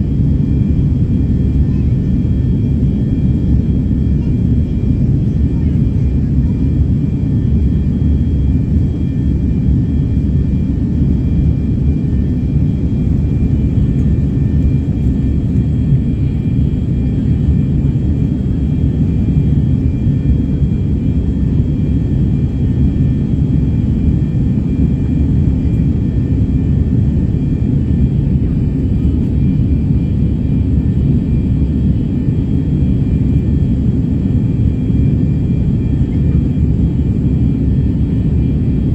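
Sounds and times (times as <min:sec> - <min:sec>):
jet engine and airflow rumble: 0:00.0 - 0:38.9.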